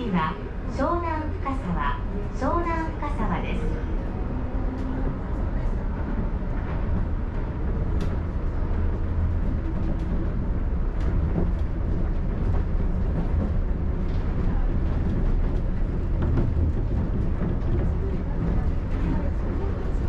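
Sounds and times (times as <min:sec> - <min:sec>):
monorail car low rumble: 0:00.0 - 0:20.0.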